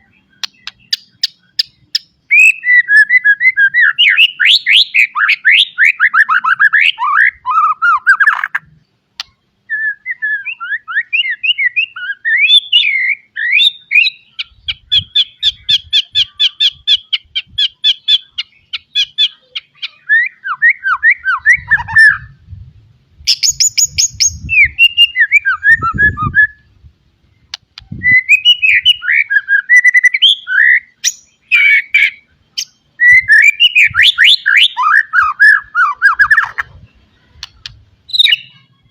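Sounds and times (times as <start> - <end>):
songbird singing varied song: 0.0 - 38.9.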